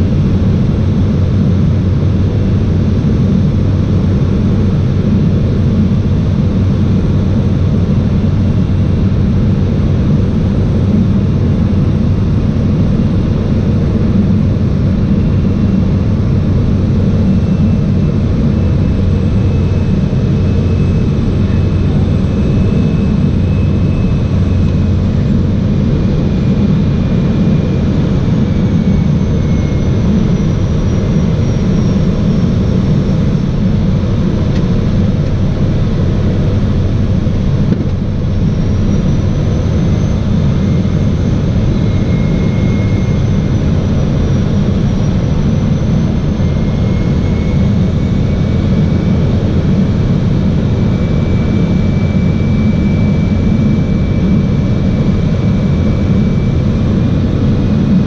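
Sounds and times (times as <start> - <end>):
faint high whine: 0.0 - 58.0
plane engine and propeller droning: 0.0 - 58.0.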